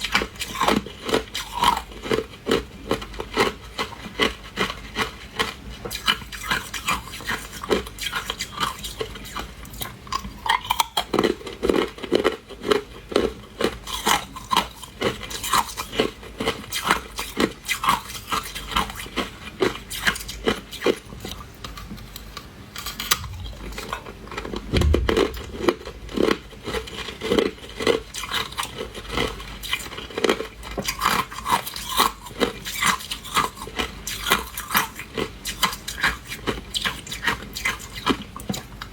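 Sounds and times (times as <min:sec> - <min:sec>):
ice being chewed: 0:00.1 - 0:21.9, 0:28.1 - 0:38.7.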